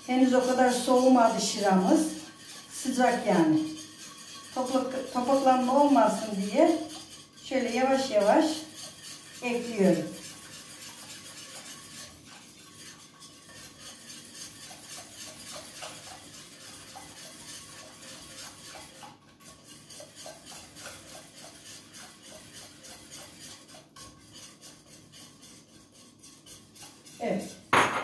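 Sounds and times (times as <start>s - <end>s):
whisk beating against metal pot: 0.0s - 28.0s.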